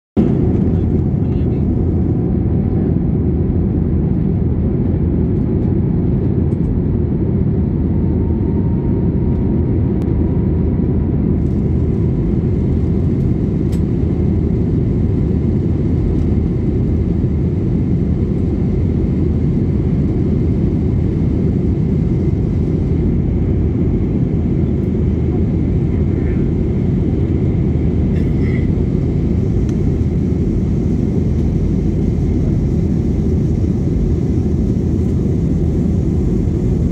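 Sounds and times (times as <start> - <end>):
aircraft cabin rumble: 0.2 - 36.9
jet engines at climb thrust: 0.2 - 36.9.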